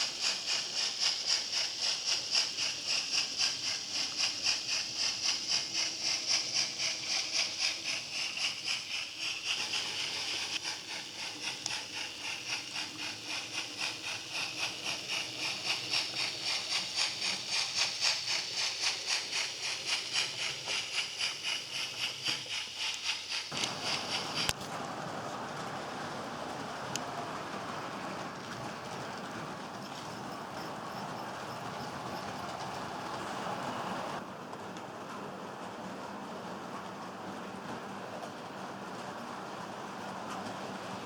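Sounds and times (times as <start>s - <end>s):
model train chuffing: 0.0s - 34.2s.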